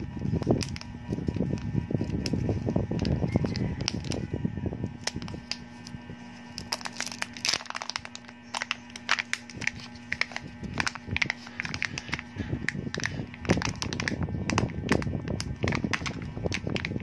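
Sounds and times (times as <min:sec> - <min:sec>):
foil crinkling: 0:00.0 - 0:04.3, 0:05.0 - 0:17.0.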